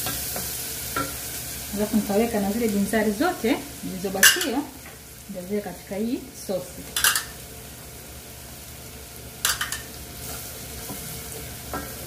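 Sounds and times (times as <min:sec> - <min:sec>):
sauce sizzling in oil: 0:00.0 - 0:12.0.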